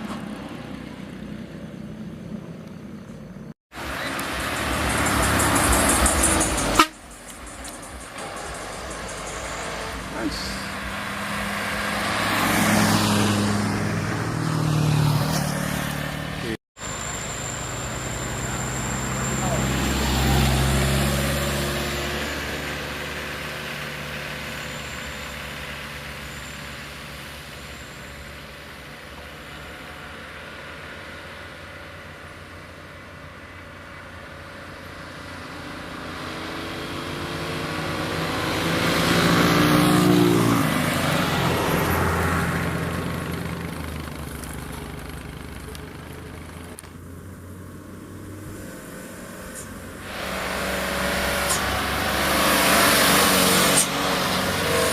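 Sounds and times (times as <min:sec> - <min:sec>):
vehicles driving past on highway: 0:00.0 - 0:54.9.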